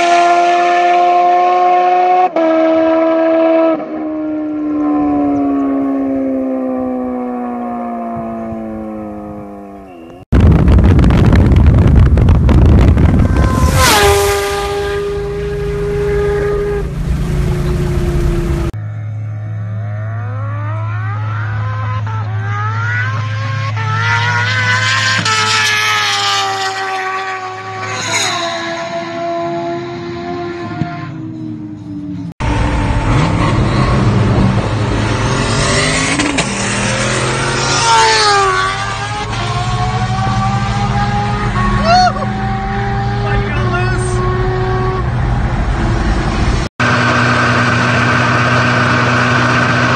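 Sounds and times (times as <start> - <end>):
motorcycle passing at high speed: 0.0 - 9.9, 10.5 - 49.9
car wind and road rumble: 3.9 - 18.8, 20.4 - 49.9.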